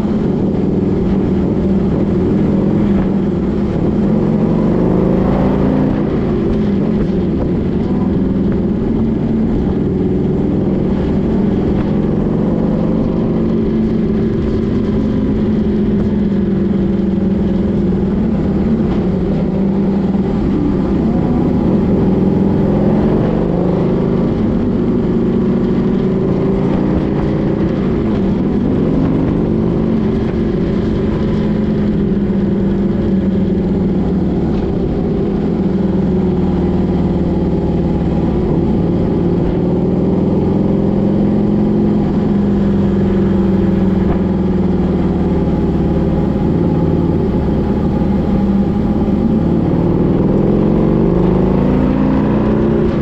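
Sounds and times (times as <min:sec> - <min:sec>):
road noise: 0:00.0 - 0:53.0
vehicle engine running: 0:00.0 - 0:53.0.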